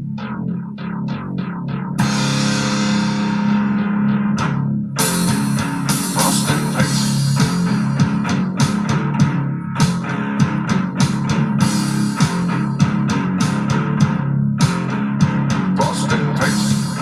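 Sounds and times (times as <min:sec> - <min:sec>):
rock band playing: 0:02.0 - 0:17.0.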